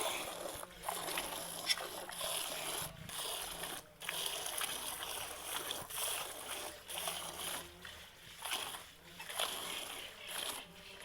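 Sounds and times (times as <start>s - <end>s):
milk squirting into a pail: 0.0s - 10.7s.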